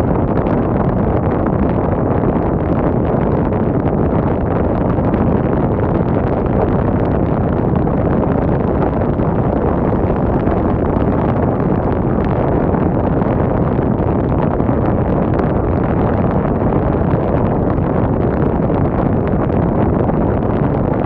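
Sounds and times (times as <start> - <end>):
wind blowing hard: 0.0 - 21.0.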